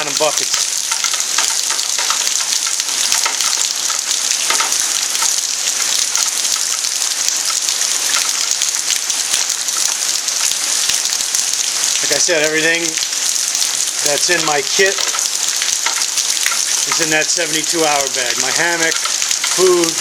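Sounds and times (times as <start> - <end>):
heavy rain pattering on ground: 0.0 - 20.0.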